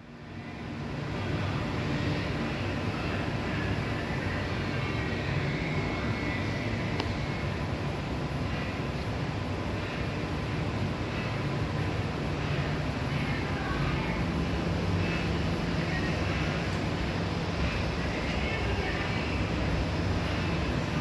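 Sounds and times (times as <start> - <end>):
faint high whine: 0.0 - 21.0
lathe mechanical drone: 0.3 - 21.0.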